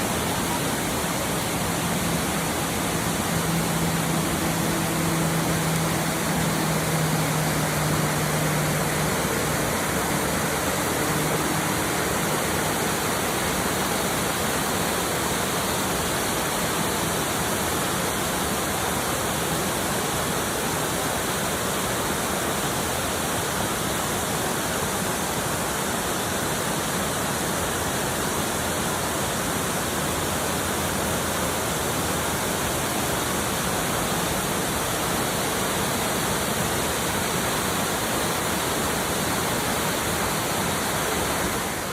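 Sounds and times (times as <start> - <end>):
waterfall pouring into creek: 0.0 - 41.9.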